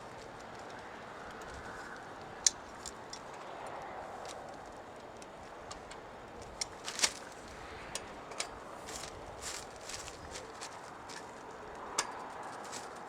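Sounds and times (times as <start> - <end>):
clicks and taps on steel tubes: 0.2 - 13.0.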